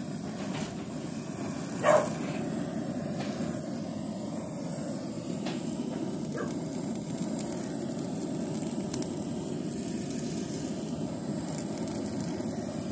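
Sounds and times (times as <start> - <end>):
blow torch flame rushing: 0.0 - 12.9.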